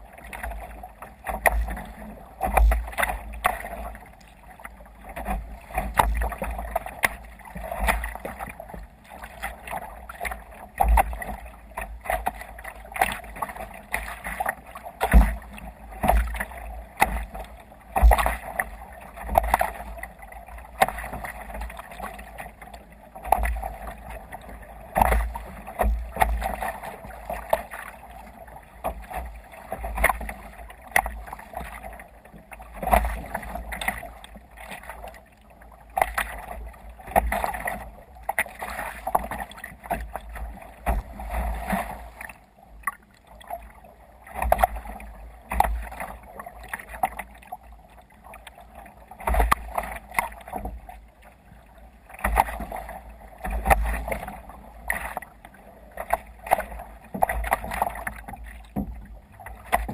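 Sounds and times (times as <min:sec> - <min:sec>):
water splashing against kayak hull: 0:00.0 - 0:59.9.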